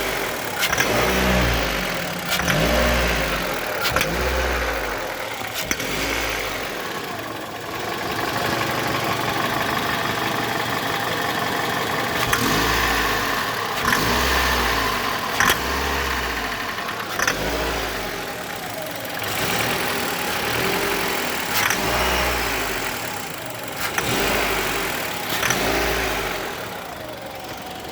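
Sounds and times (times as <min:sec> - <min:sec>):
car engine revving: 0:00.0 - 0:27.7.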